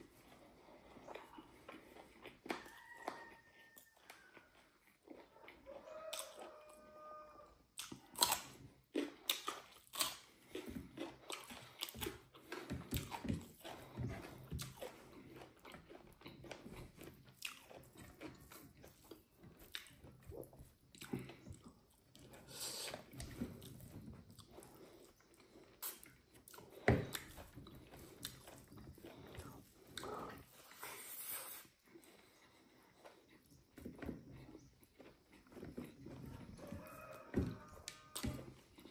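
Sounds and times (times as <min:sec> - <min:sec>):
person chewing food: 0:00.0 - 0:38.9.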